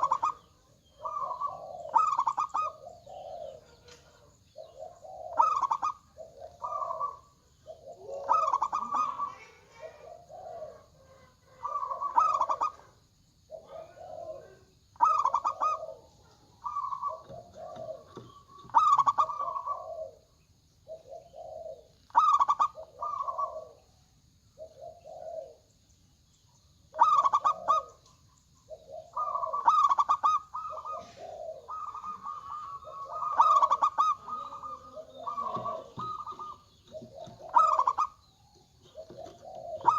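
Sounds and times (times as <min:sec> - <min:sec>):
doves cooing: 0:00.0 - 0:25.8, 0:26.8 - 0:39.9.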